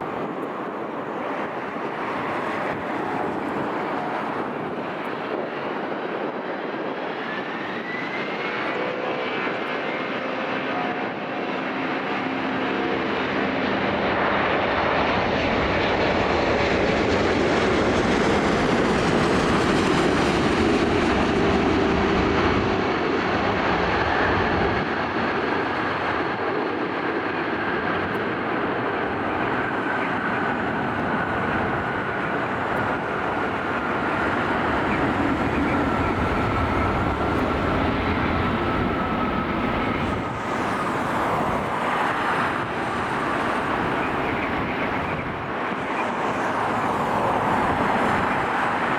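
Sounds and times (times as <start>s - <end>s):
jet engines roaring: 0.0s - 48.9s.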